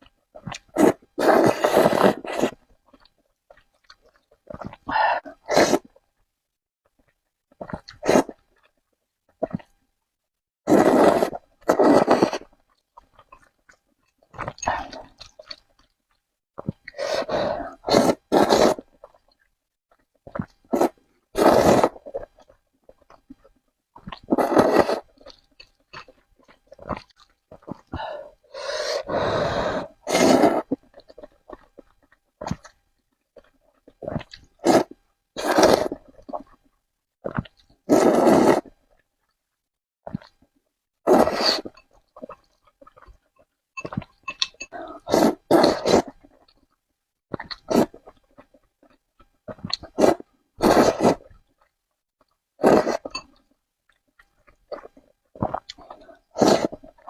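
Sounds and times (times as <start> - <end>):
chewing and mouth sounds: 0.0 - 6.0, 6.9 - 9.8, 10.7 - 28.1, 30.2 - 39.4, 40.0 - 57.0.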